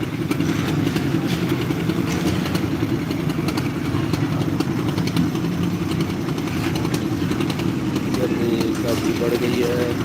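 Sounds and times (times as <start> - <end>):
construction machinery engine running: 0.0 - 10.0.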